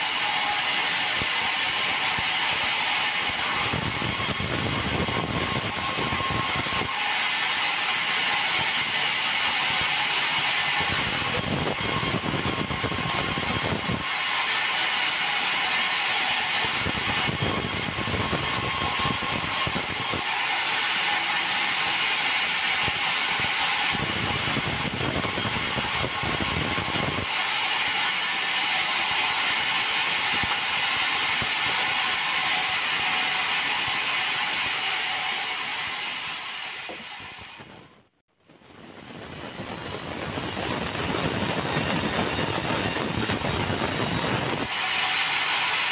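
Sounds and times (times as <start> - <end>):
band saw cutting log: 0.0 - 38.0, 40.2 - 45.9.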